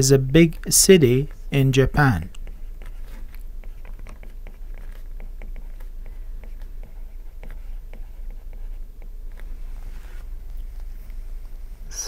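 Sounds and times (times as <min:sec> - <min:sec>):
stylus tapping and scratching on screen: 0:00.0 - 0:11.5
faint steady hum: 0:00.0 - 0:12.0.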